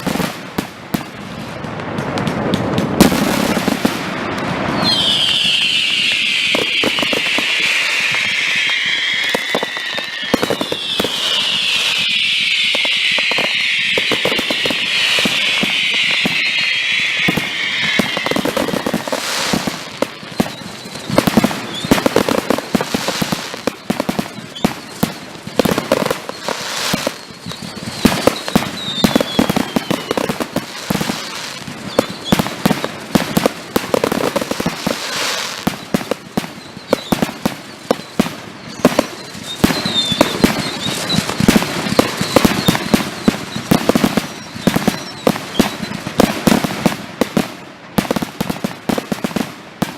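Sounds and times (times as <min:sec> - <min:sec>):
fireworks whistles: 0:00.0 - 0:02.4, 0:03.0 - 0:49.9
fireworks bangs and crackling: 0:00.0 - 0:49.9.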